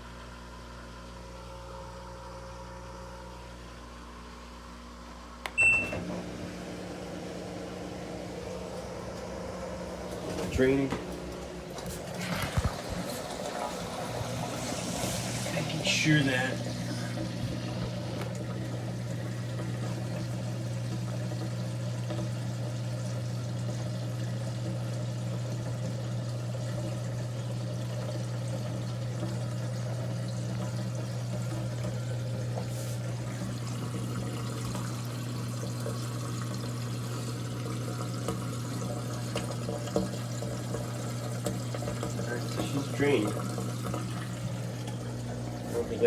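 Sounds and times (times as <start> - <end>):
drain pump humming: 0.0 - 46.0
water rushing through pump: 5.6 - 46.0.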